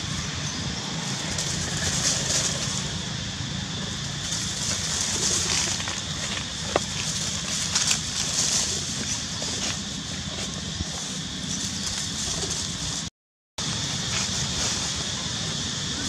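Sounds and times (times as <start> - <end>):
high hiss: 0.0 - 16.0
dry leaves crackling: 0.9 - 16.0.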